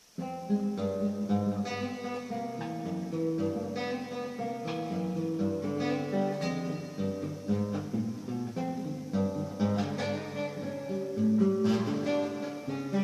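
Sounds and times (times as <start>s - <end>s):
acoustic guitar tune: 0.0s - 13.0s.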